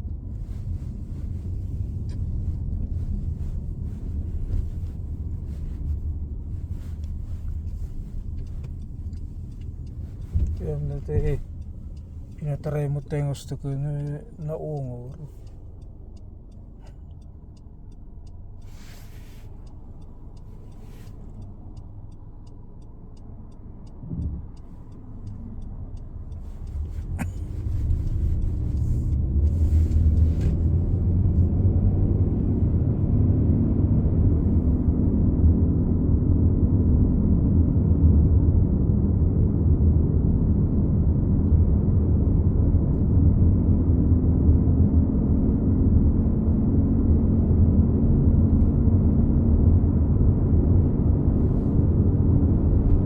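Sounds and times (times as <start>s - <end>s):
car humming drone: 0.0s - 53.0s.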